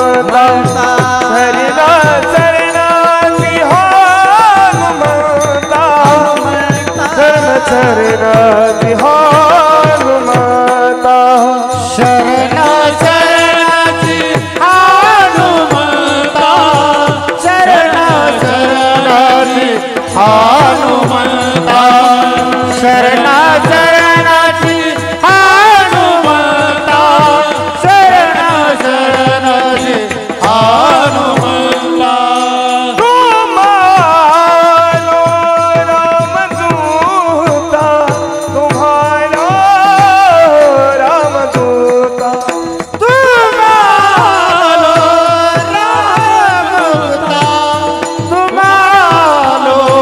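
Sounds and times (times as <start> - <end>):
drum keeping time: 0.0 - 50.0
men singing in unison: 0.0 - 50.0.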